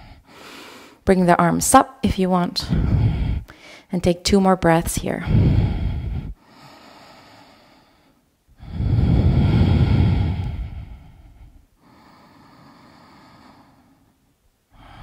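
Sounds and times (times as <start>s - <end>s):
woman breathing deeply: 0.0s - 1.0s, 2.6s - 3.9s, 5.2s - 15.0s.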